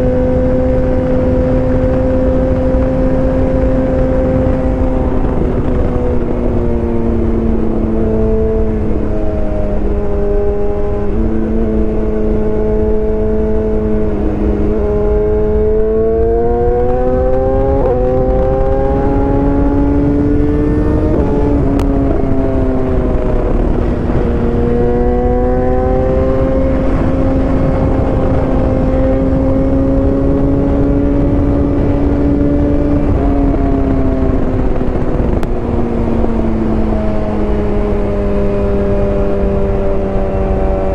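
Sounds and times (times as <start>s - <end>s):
motorcycle engine revving: 0.0s - 40.9s
steady rushing noise: 0.0s - 40.9s.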